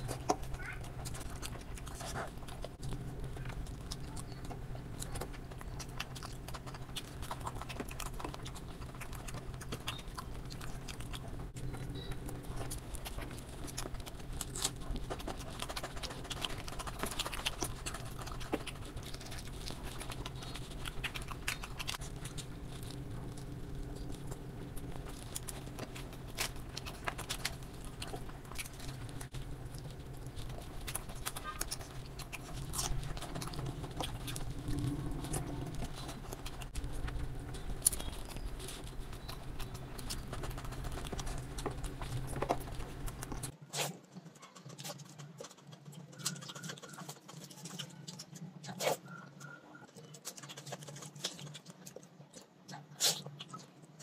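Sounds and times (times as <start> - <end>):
low steady hum: 0.0 - 44.2
person chewing with lip smacks: 0.0 - 54.0.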